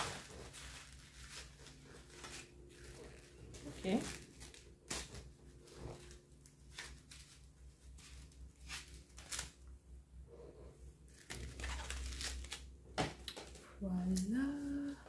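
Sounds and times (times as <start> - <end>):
plastic wrapping crinkling: 0.0 - 9.6, 11.1 - 13.6.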